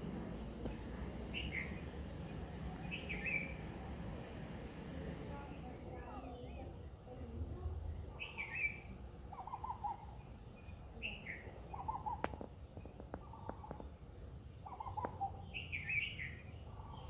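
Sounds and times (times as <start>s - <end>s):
birds calling: 0.0s - 4.4s, 5.3s - 17.0s.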